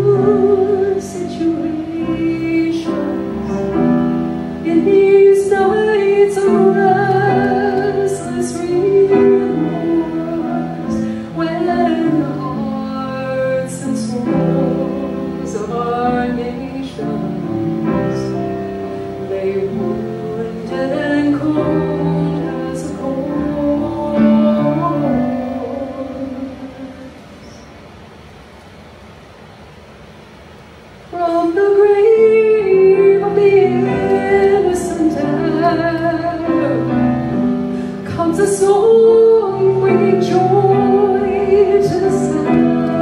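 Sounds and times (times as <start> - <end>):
woman singing: 0.0 - 27.7, 31.1 - 43.0
grand piano: 0.0 - 43.0.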